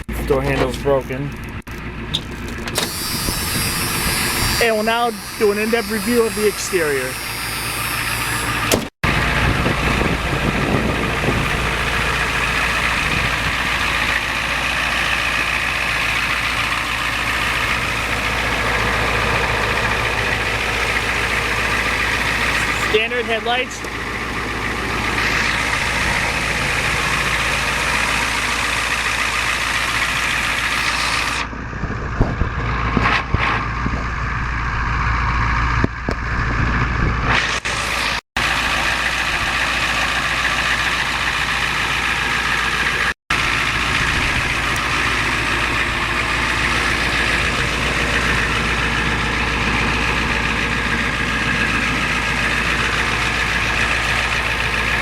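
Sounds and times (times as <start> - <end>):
engine knocks: 0.0 - 37.8, 38.4 - 55.0
diesel engine idling: 0.0 - 55.0.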